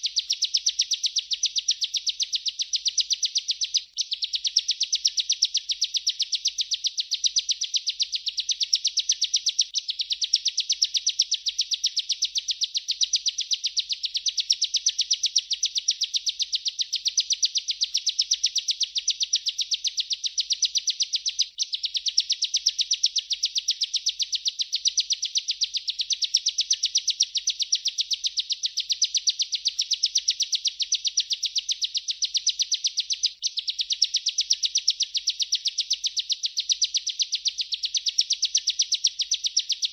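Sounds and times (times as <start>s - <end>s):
bird singing rapid chirping song: 0.0s - 39.9s.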